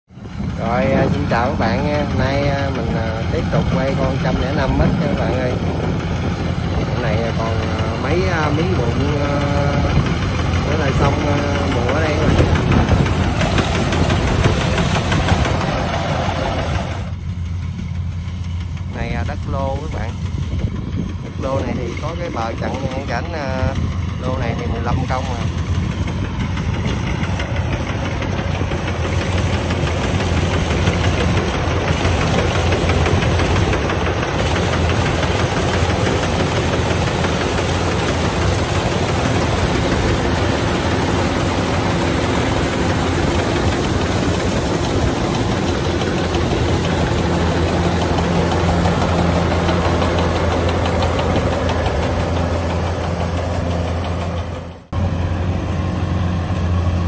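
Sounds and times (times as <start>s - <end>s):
combine harvester droning: 0.1s - 57.0s.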